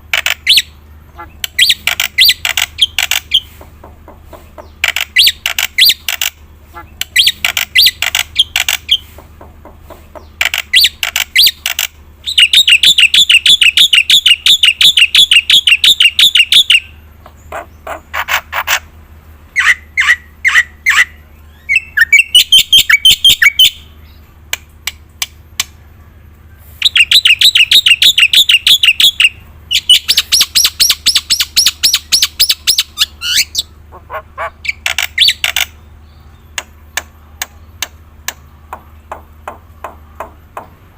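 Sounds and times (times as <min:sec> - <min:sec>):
myna bird singing chattering notes: 0:00.0 - 0:40.9.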